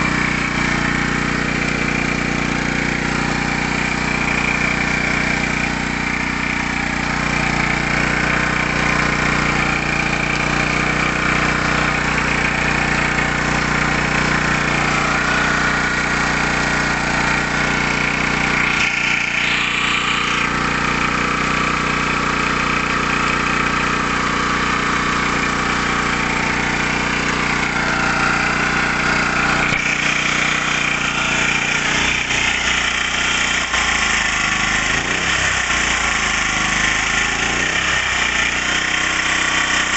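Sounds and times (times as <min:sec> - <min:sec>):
portable generator running: 0:00.0 - 0:39.9.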